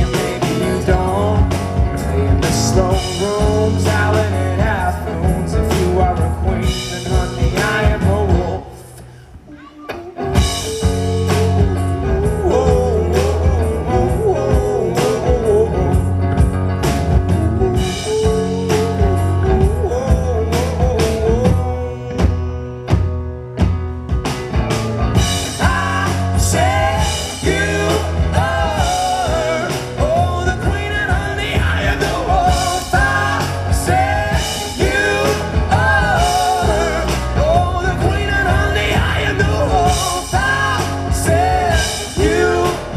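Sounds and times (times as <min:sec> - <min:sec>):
man singing: 0:00.0 - 0:09.1, 0:09.7 - 0:16.4, 0:17.3 - 0:23.2, 0:25.2 - 0:42.9
live rock band playing: 0:00.0 - 0:42.9.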